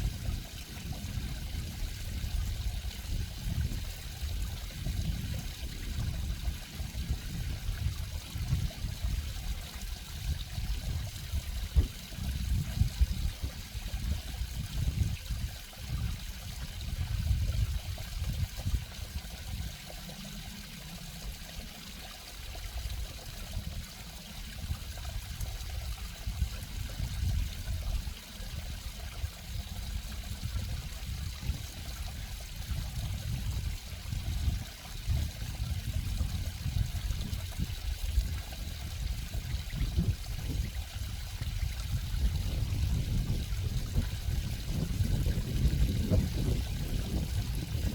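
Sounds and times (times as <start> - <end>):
water running and trickling: 0.0 - 47.9.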